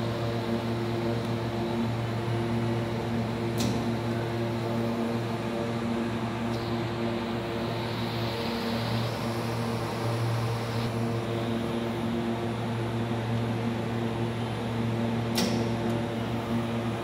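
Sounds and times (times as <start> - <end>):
cooling fans whirring: 0.0 - 17.0
electrical hum: 0.0 - 17.0.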